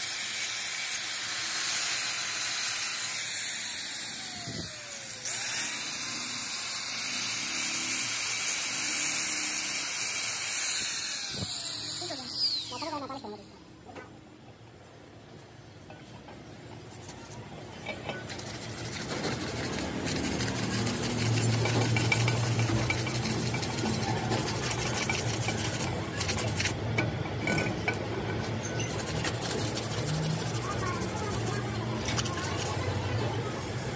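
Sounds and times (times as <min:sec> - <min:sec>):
abrasive tool scraping metal: 0:00.0 - 0:13.4, 0:16.9 - 0:32.9
angle grinder grinding metal: 0:00.0 - 0:13.5, 0:17.8 - 0:26.8, 0:27.4 - 0:32.8
faint motor hum: 0:00.1 - 0:33.9.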